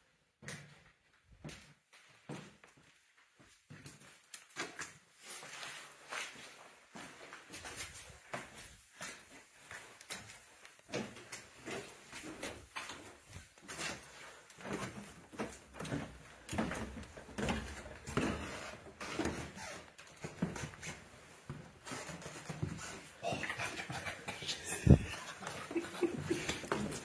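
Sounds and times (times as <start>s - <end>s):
footsteps on staircase: 0.4s - 27.0s.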